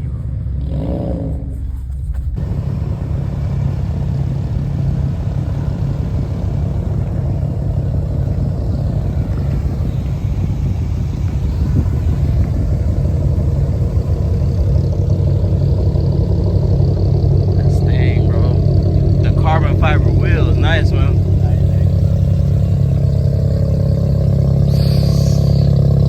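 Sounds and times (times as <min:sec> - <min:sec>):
car engine low exhaust drone: 0:00.0 - 0:26.0.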